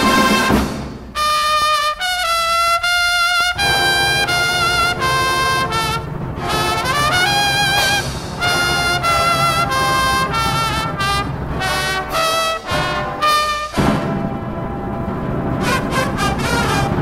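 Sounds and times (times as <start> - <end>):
brass horn line playing: 0.0 - 17.0.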